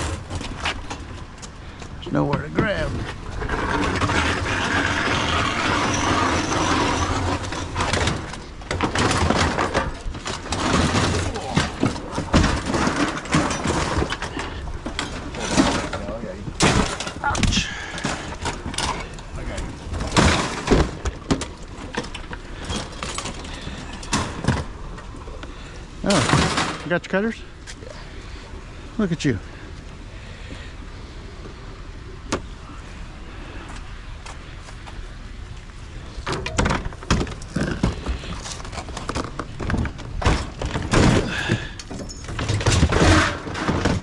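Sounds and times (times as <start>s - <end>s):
metal clanks and rattles: 0.0s - 27.6s, 36.1s - 44.0s.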